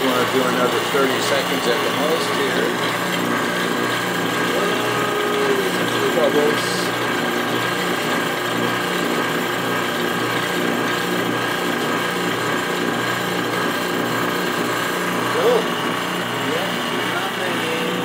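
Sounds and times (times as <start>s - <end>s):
vacuum pump running: 0.0s - 18.0s.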